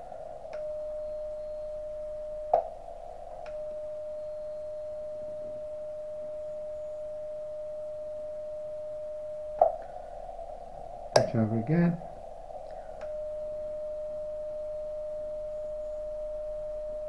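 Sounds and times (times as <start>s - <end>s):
steady pure tone: 0.0s - 17.0s.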